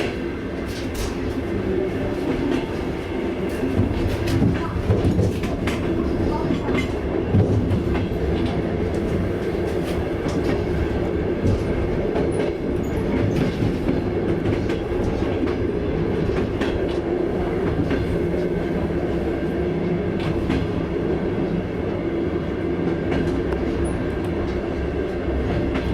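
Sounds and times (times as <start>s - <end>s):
train rumbling along track: 0.0s - 25.9s.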